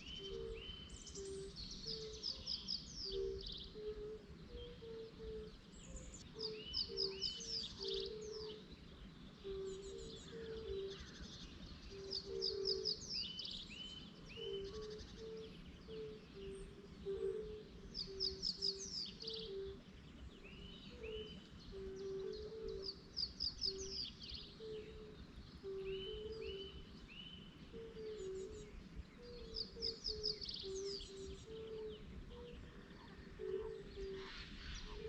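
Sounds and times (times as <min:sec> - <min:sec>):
songbird singing: 0:00.0 - 0:35.0.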